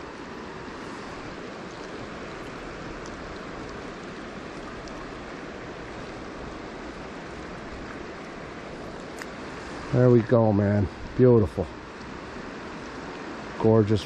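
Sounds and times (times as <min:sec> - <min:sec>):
river running over rocks: 0:00.0 - 0:14.0.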